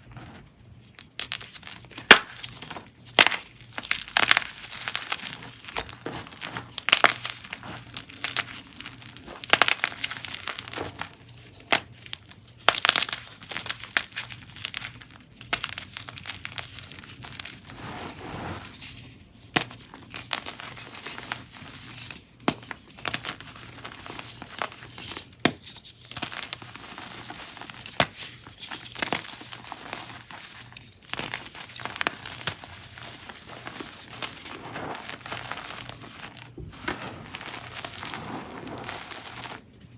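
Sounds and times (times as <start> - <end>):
chalk blocks crunching and crackling: 0.1 - 39.9.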